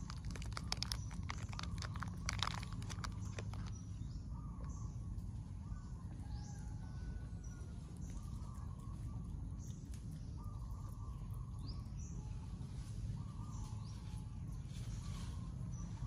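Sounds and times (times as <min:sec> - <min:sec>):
birds calling: 0:00.0 - 0:16.0
steady low rumble: 0:00.0 - 0:16.0.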